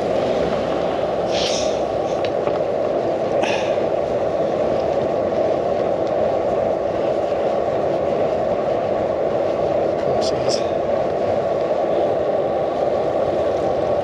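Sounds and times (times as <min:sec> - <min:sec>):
bicycle tyres rumbling: 0:00.0 - 0:14.0
wind noise: 0:00.0 - 0:14.0.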